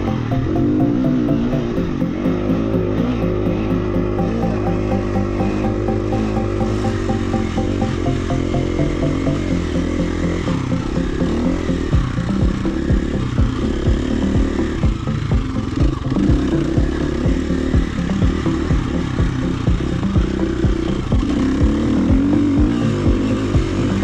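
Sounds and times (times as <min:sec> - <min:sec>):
background music: 0:00.0 - 0:24.0
dirt bike engine revving: 0:00.0 - 0:24.0.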